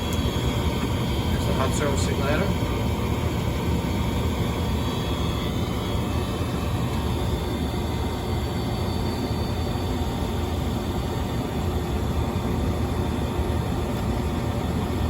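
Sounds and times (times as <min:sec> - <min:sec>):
furnace inducer motor running: 0:00.0 - 0:15.0.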